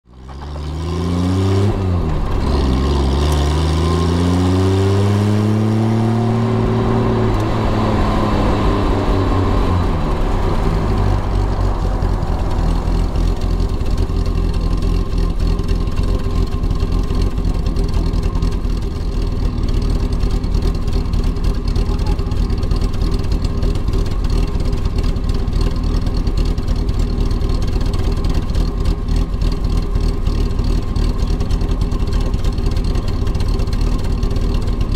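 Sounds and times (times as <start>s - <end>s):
sports car engine accelerating: 0.1s - 34.9s.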